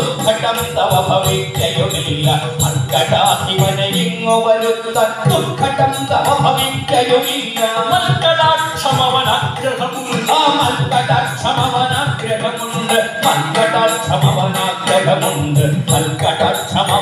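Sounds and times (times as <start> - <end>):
drumming: 0.0 - 4.2, 5.0 - 17.0
man singing in chanting style: 0.0 - 17.0.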